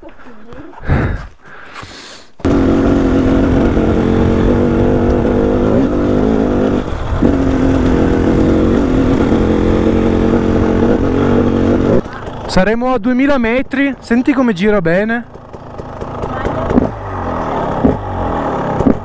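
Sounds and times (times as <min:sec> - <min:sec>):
two-stroke motorcycle engine: 0:02.4 - 0:13.1, 0:14.0 - 0:19.0.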